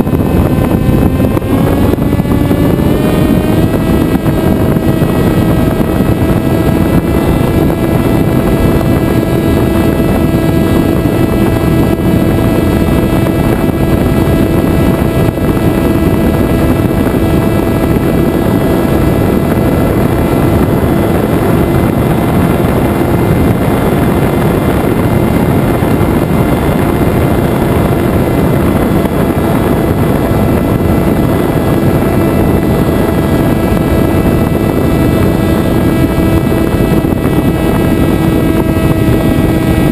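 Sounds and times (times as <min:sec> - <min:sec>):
electric motor and propeller hum: 0:00.0 - 0:39.9
rushing air: 0:00.0 - 0:39.9.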